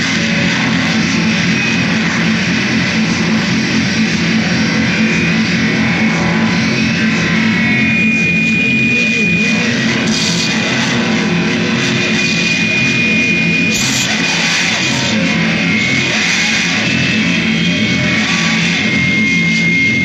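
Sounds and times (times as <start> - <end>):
distorted guitar music: 0.0 - 20.0
held high tone: 1.0 - 20.0.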